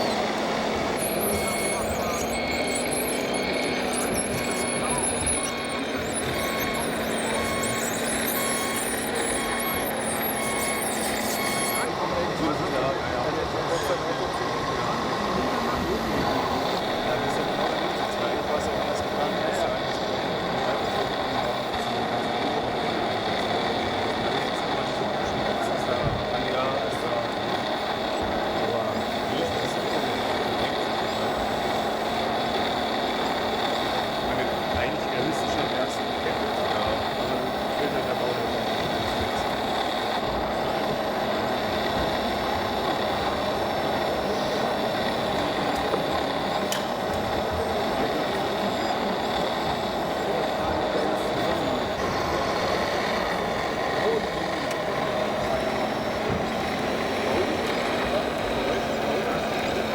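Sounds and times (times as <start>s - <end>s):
hall background noise: 0.0s - 59.9s
model trucks idling drone: 0.0s - 59.9s.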